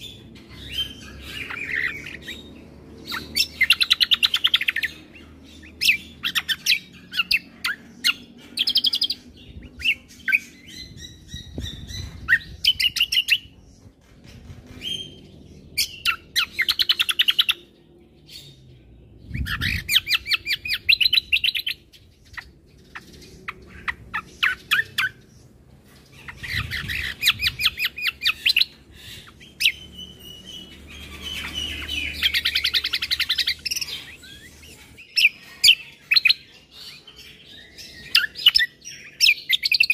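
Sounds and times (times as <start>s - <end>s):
bird chattering trills and chirps: 0.0s - 39.9s.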